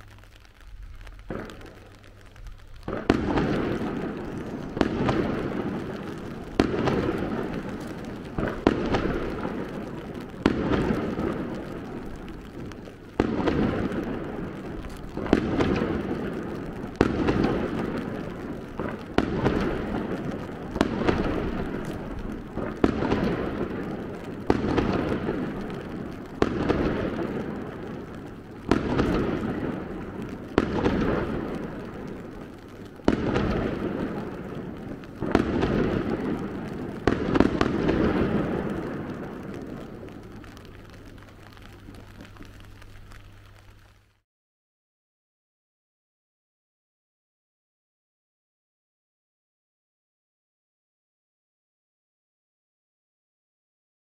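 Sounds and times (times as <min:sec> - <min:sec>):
firework bangs: 0:00.0 - 0:43.8.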